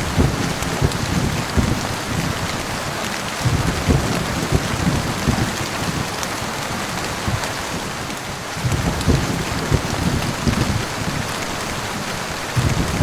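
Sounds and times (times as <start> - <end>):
heavy rain falling: 0.0 - 13.0
thunder rumbling: 0.0 - 13.0.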